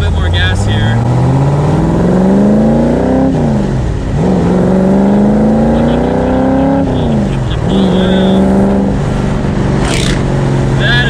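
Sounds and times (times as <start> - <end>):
vee eight engine accelerating: 0.0 - 11.0.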